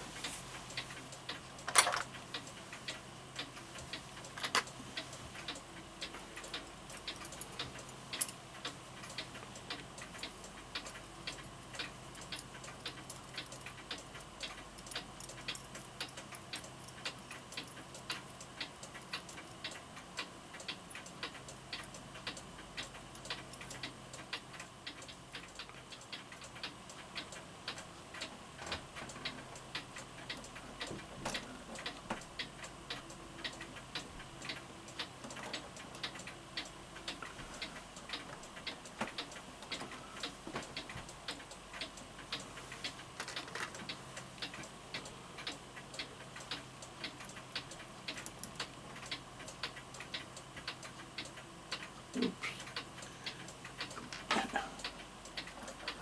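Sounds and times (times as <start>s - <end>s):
clock ticking: 0.2s - 56.0s.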